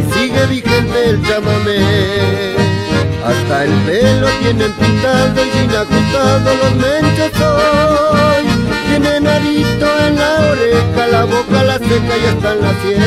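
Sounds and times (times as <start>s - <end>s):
accordion-led band music: 0.0s - 13.0s
steady bass beat: 0.0s - 13.0s.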